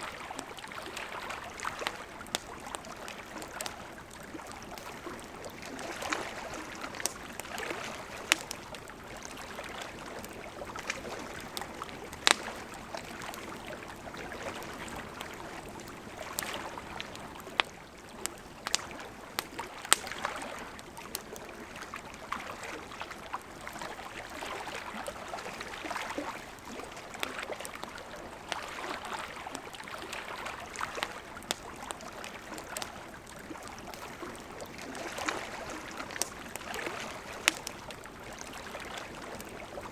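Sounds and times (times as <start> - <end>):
river flowing: 0.0 - 39.9
campfire crackling and popping: 0.1 - 39.9.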